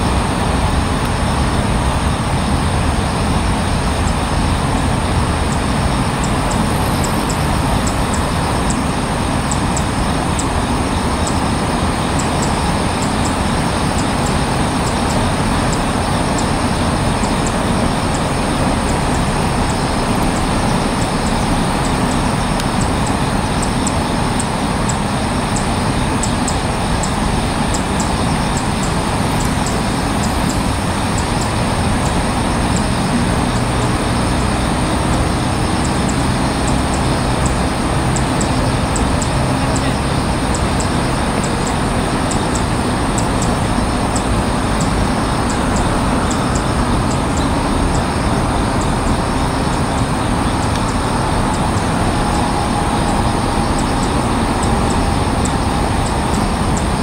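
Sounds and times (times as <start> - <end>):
rushing outdoor background noise: 0.0 - 57.0.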